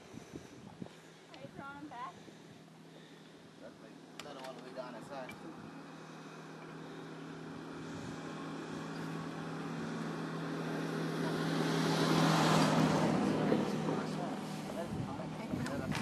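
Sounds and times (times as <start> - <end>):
passing vehicle engine hum: 1.2 - 16.0.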